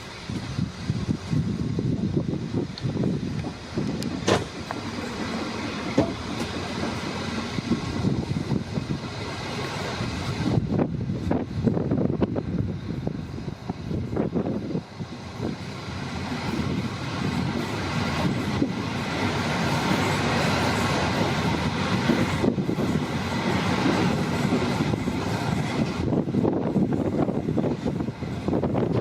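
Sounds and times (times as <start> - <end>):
rushing noise of moving train: 0.0 - 29.0
train rumbling on rails: 0.0 - 29.0.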